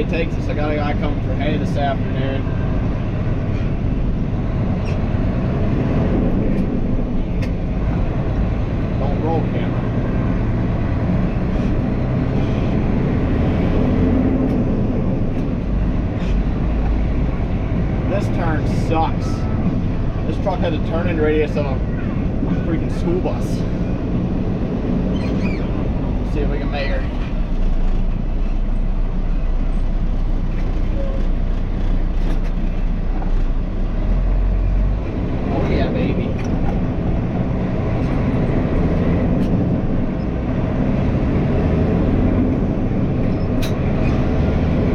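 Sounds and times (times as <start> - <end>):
road noise: 0.0 - 44.9
truck engine droning: 0.0 - 44.9.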